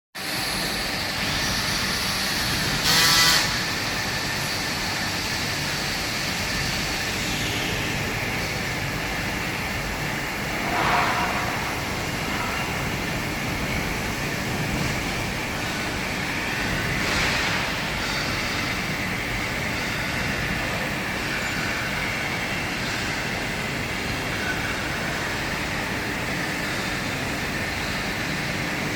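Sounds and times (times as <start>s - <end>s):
machinery running: 0.2s - 28.9s.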